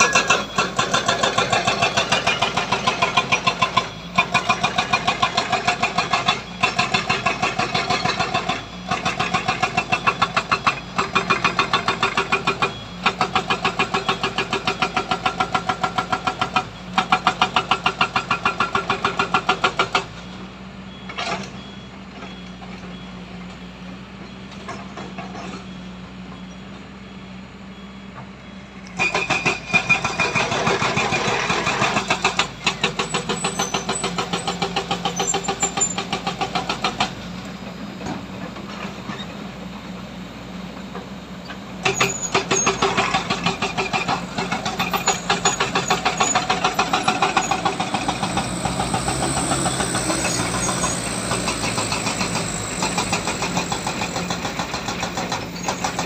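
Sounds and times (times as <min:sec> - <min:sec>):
diesel engine revving: 0:00.0 - 0:20.2, 0:28.8 - 0:40.6, 0:41.6 - 0:56.0.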